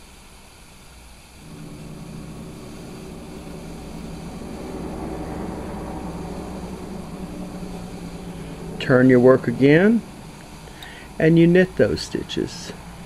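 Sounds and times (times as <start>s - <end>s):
motor humming: 1.4s - 13.0s.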